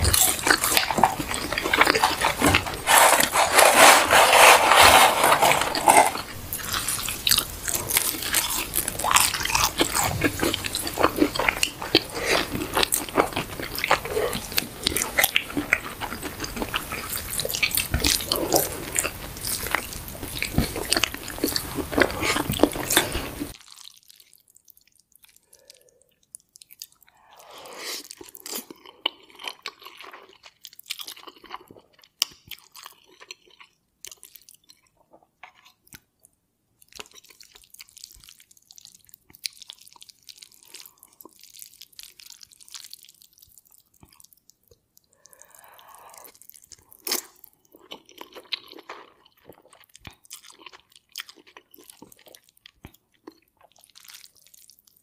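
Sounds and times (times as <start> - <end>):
crunchy chewing: 0.0 - 27.1, 36.9 - 55.0.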